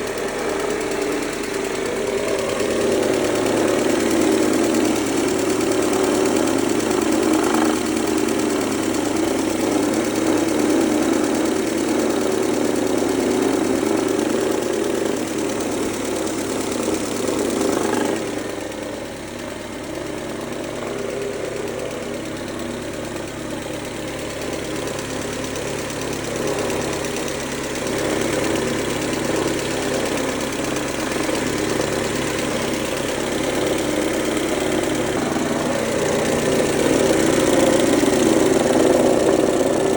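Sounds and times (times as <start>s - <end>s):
car engine idling: 0.0s - 39.9s
engine chain noise: 0.0s - 39.9s.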